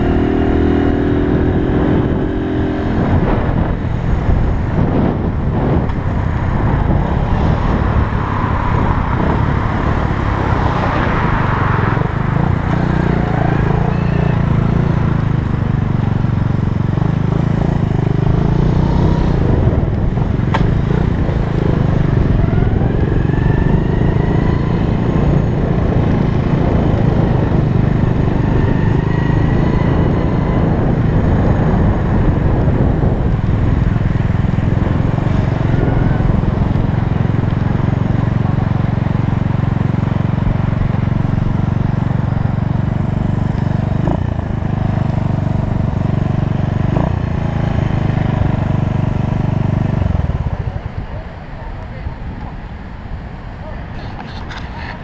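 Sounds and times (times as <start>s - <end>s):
motorcycle engine running: 0.0s - 52.1s.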